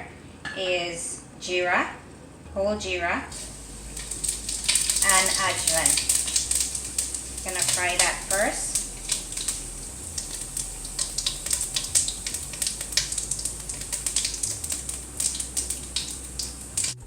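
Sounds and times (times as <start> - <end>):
crackling pops: 3.3 - 17.0
seeds sizzling in hot oil: 3.3 - 17.0.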